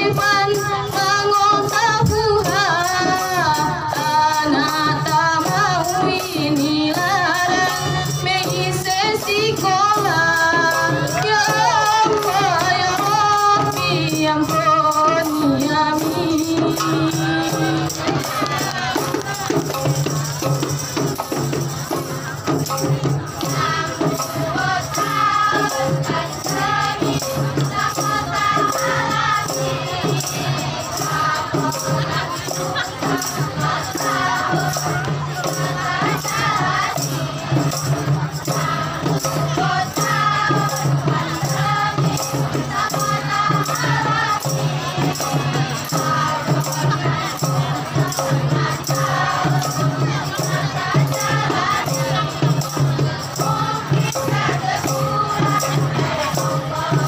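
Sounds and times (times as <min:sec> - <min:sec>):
frame drums beating: 0:00.0 - 0:57.0
women singing together: 0:00.0 - 0:57.0.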